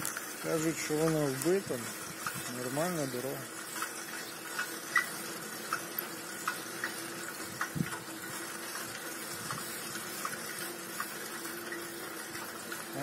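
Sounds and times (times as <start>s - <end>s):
bicycle tyres hissing on asphalt: 0.0s - 13.0s
light clicks and rattles: 0.0s - 13.0s.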